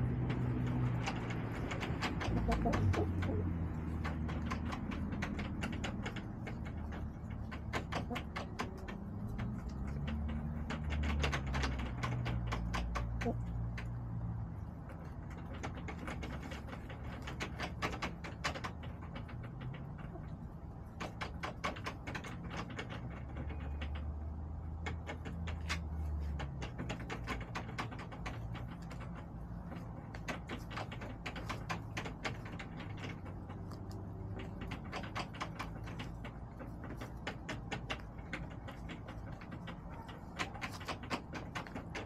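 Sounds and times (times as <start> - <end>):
hens pecking hard surfaces: 0.0 - 42.0.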